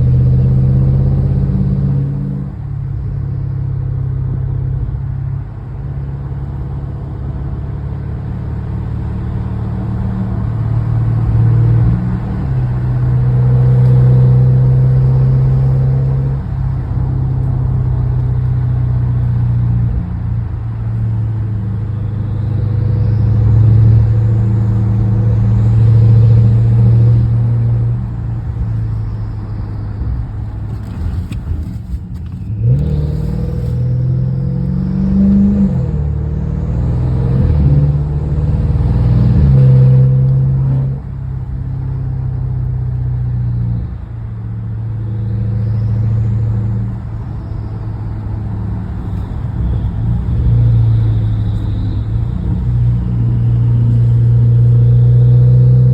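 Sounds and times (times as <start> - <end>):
car exhaust drone: 0.0 - 55.9.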